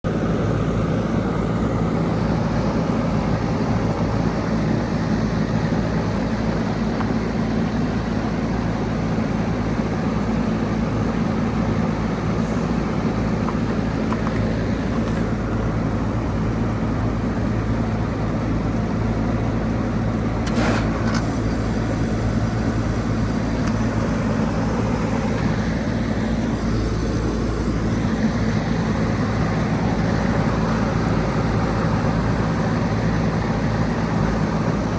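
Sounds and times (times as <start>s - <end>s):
heat pump compressor humming: 0.0s - 34.9s.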